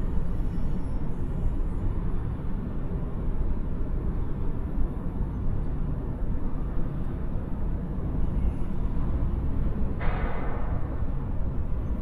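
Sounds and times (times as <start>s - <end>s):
deep din of plant machinery: 0.0s - 12.0s.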